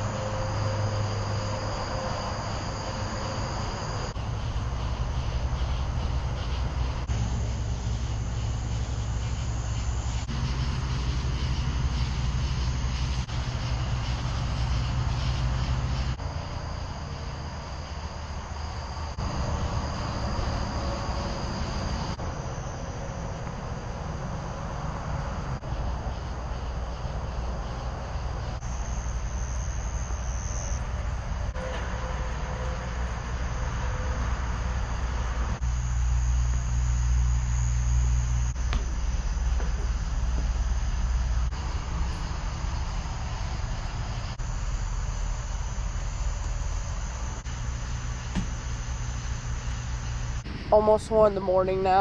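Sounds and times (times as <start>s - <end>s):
insects chirping faintly: 0.0s - 52.0s.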